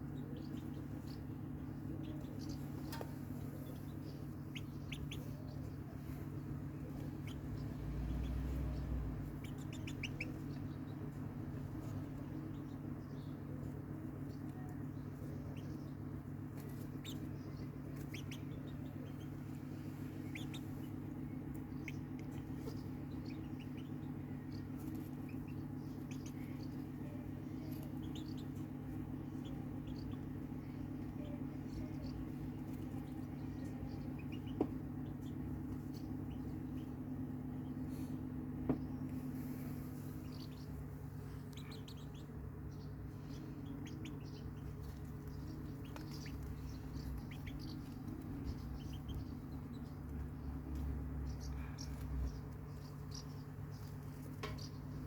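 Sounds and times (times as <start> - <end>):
chickens chirping and peeping: 0.0 - 55.0
low hum: 0.0 - 55.0.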